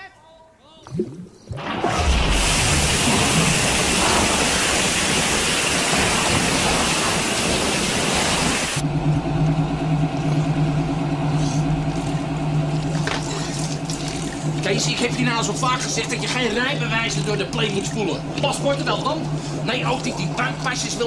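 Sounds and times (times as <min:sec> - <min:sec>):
cistern refilling hum: 0:00.8 - 0:21.0
toilet flushing: 0:01.5 - 0:21.0.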